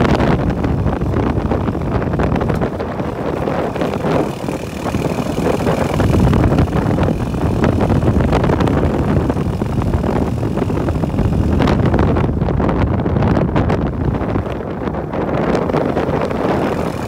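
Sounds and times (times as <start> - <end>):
motorcycle engine running: 0.0 - 17.0
road noise: 0.0 - 17.0
wind buffeting microphone: 0.0 - 17.0.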